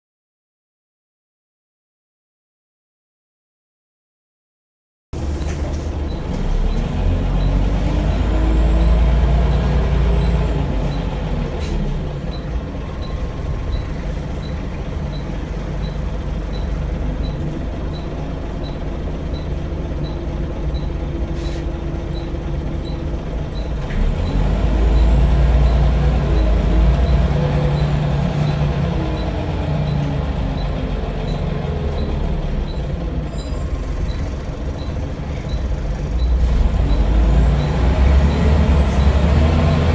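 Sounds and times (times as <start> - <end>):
bus diesel engine accelerating: 5.2 - 39.9.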